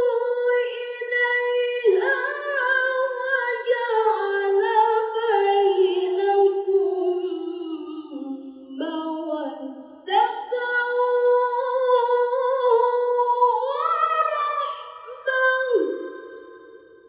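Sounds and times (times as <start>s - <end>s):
woman reciting melodically: 0.0s - 17.0s.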